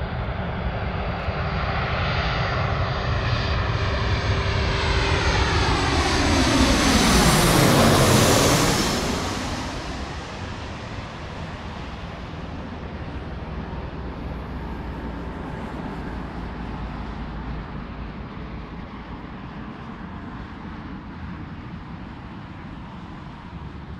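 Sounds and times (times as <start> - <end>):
jet engines rumbling overhead: 0.0 - 23.9
road traffic: 3.0 - 23.9.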